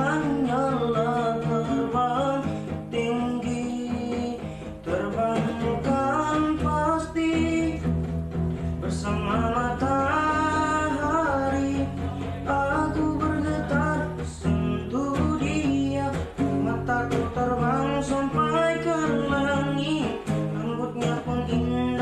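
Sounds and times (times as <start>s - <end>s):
person singing: 0.0s - 8.0s, 8.6s - 22.0s
guitar accompaniment: 0.0s - 22.0s.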